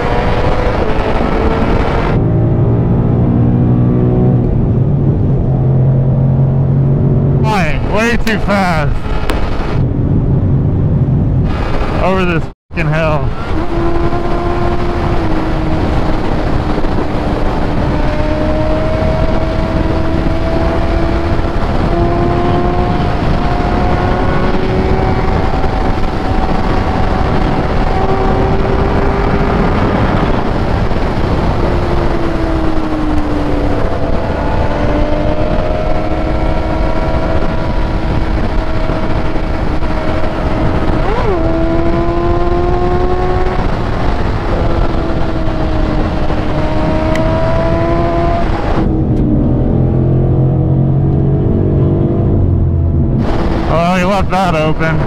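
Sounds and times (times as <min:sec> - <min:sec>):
engine revving high: 0:00.0 - 0:09.8, 0:13.2 - 0:55.0
wind rush: 0:00.0 - 0:55.0.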